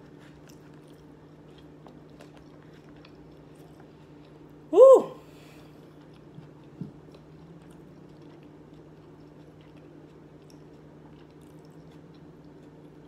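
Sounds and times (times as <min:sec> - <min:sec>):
low steady hum: 0:00.0 - 0:13.0
quiet chewing: 0:00.0 - 0:13.0.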